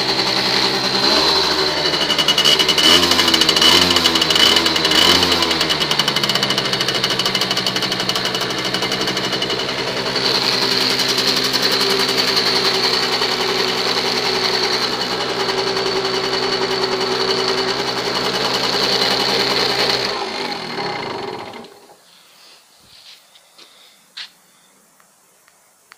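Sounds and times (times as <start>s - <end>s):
two-stroke moped engine idling: 0.0s - 22.0s.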